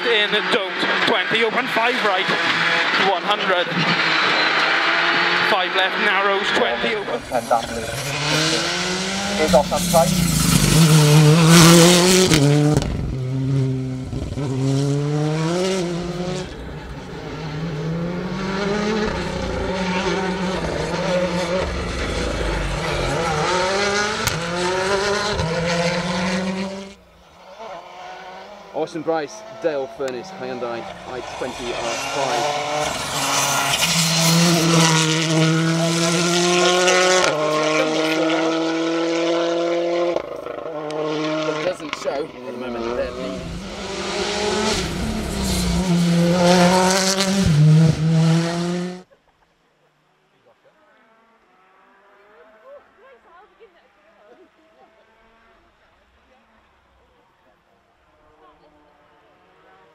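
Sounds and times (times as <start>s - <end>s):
rally car engine revving: 0.0s - 49.1s, 50.8s - 53.0s, 58.2s - 59.9s.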